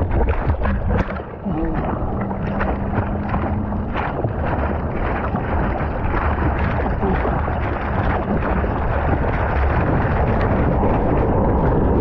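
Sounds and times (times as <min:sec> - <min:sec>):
water splashing and rushing: 0:00.0 - 0:12.0
wind buffeting microphone: 0:00.0 - 0:12.0.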